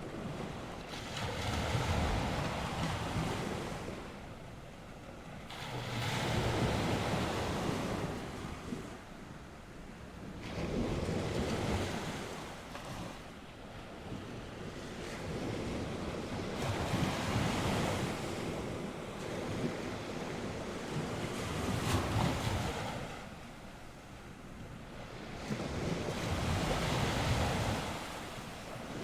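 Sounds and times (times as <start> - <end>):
waves breaking on shore: 0.0 - 29.0
wind buffeting microphone: 5.2 - 29.0.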